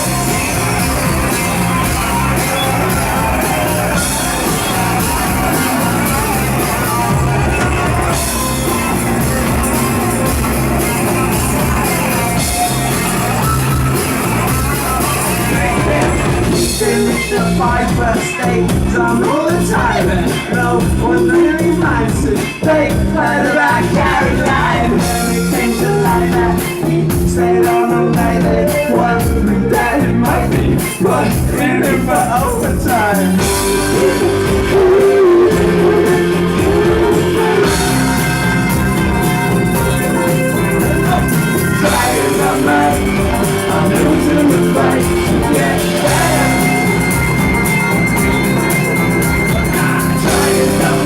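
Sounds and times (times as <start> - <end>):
drum beat: 0.0 - 27.6, 30.3 - 51.0
person singing: 0.0 - 51.0
rock band playing live: 0.0 - 51.0.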